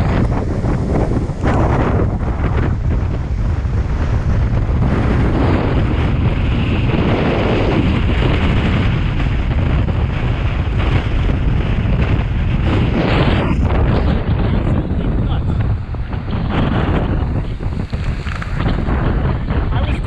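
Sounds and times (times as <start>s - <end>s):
heavy ocean surf: 0.0s - 20.0s
wind buffeting microphone: 0.0s - 20.0s.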